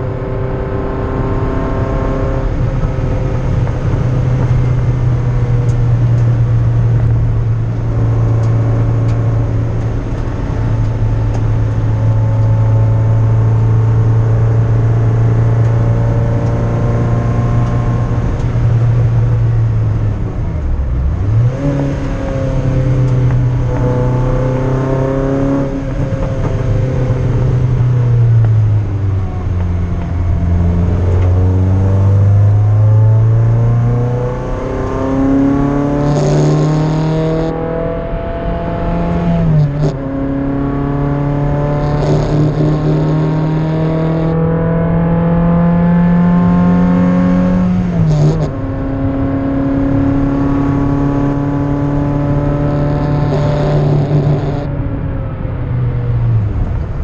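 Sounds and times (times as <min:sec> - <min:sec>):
race car engine high-revving: 0:00.0 - 0:54.9.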